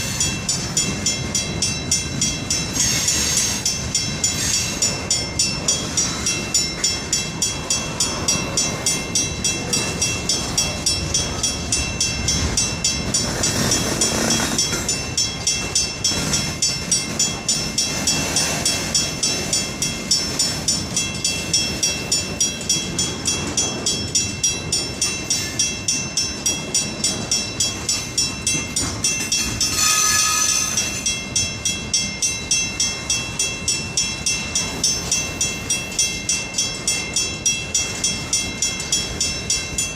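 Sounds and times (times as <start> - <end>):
freight train rolling past: 0.0 - 39.9
metallic ringing: 0.0 - 39.9.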